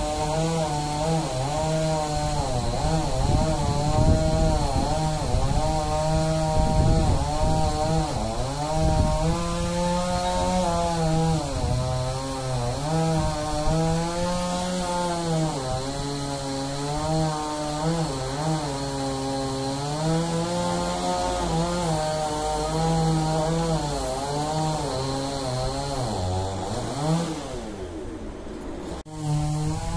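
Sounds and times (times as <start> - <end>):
chainsaw cutting wood: 0.0 - 28.1, 28.8 - 29.9.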